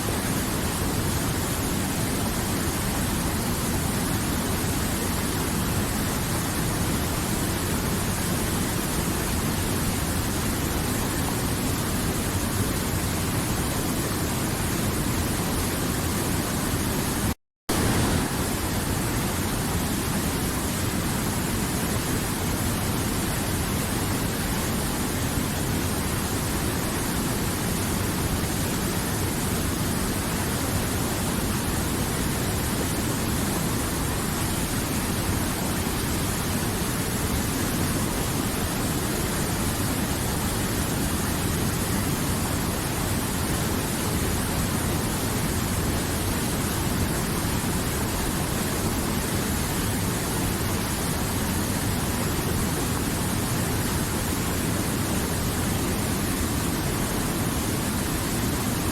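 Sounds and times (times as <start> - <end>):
river water flowing: 0.0 - 58.9.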